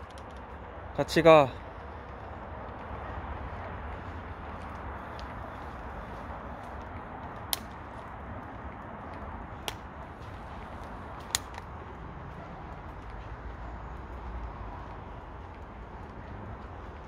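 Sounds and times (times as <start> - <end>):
outdoor ambience hiss: 0.0 - 17.0.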